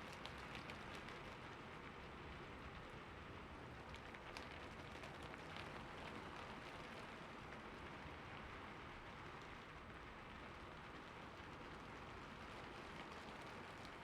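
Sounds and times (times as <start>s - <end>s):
rain falling on a roof: 0.0s - 14.0s.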